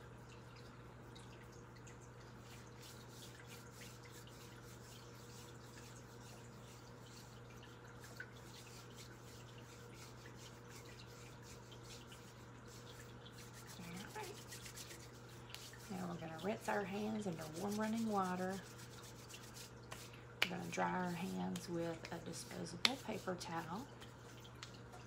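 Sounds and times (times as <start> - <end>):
running tap water: 0.0 - 25.0
water dripping in sink: 0.0 - 25.0.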